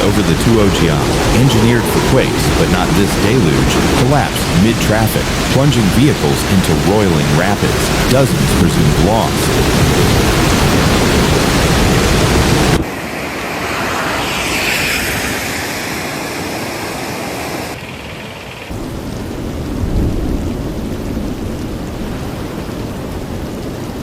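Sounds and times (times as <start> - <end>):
heavy rain: 0.0 - 15.0, 15.6 - 24.0
storm rumble: 0.0 - 24.0.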